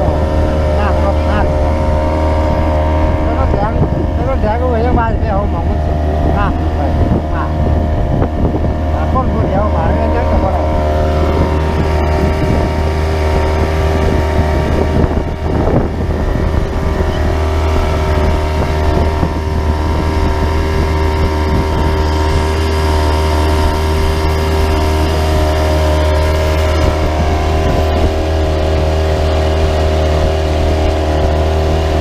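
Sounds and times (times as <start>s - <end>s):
engine droning steadily: 0.0s - 32.0s.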